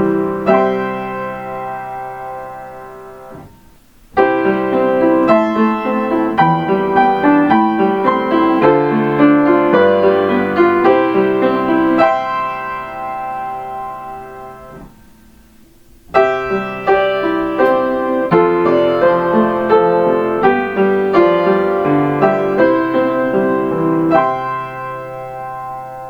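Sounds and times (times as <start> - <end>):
piano chime melody: 0.0 - 15.4, 16.1 - 26.0.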